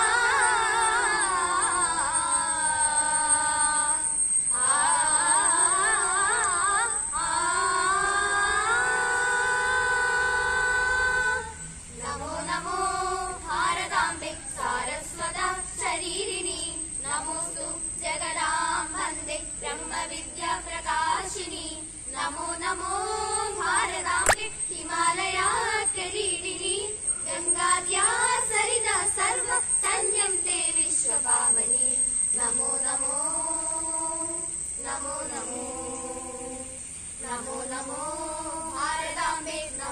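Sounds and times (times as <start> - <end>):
group singing unaccompanied: 0.0 - 39.9.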